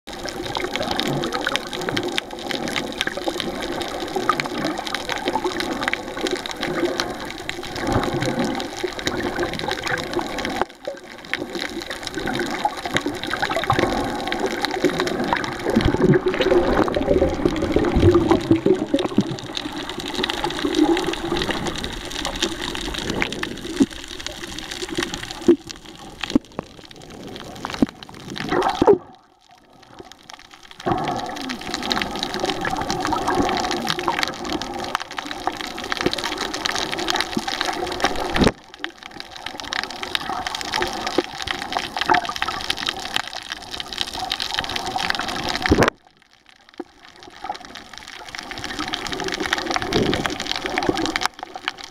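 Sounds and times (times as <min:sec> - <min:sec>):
water rushing underwater: 0:00.1 - 0:51.9.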